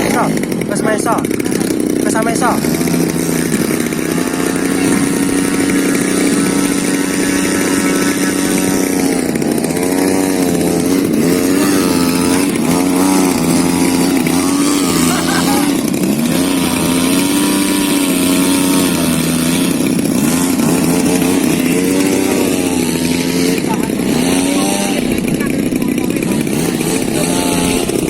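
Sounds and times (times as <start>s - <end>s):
model plane engine buzzing: 0.0s - 28.0s.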